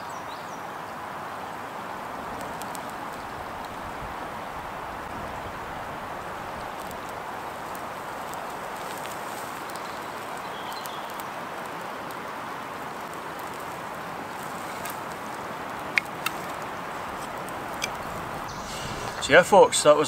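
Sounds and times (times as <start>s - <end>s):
stream rushing: 0.0s - 20.0s.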